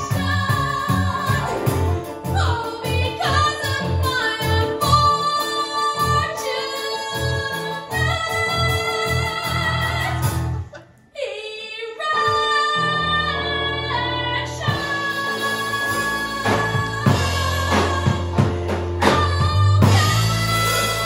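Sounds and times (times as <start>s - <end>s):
piano: 0.0s - 21.0s
woman singing into a microphone: 0.0s - 21.0s.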